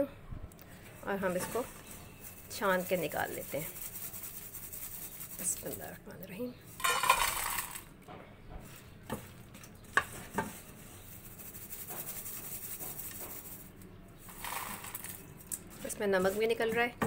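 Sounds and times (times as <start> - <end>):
rustle of salt and nuts: 0.8 - 7.9, 8.6 - 16.9.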